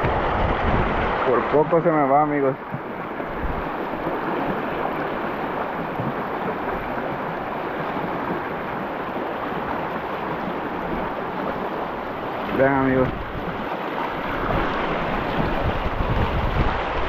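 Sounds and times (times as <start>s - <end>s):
river rushing over shallows: 0.0s - 17.0s.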